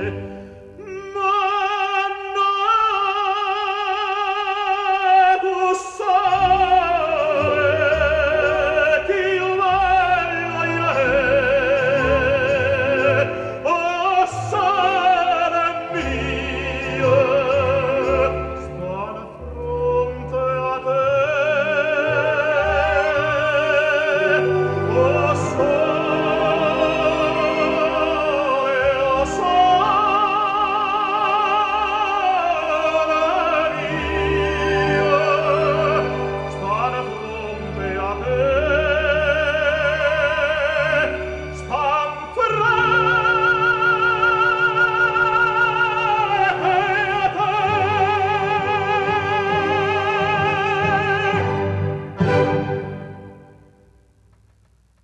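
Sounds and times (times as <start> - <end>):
operatic voice singing: 0.0 - 51.9
orchestral accompaniment: 0.0 - 53.8.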